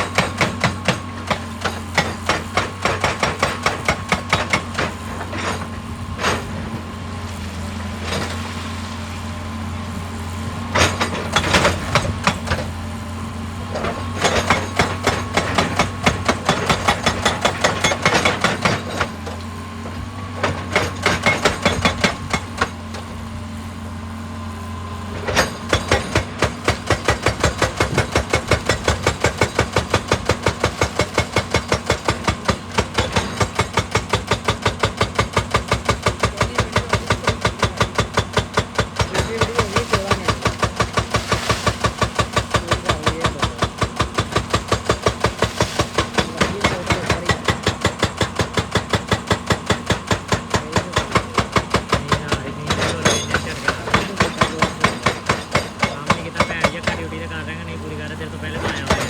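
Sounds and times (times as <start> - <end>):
diesel engine hum: 0.0 - 59.0
hydraulic breaker hammering rock: 0.0 - 59.0.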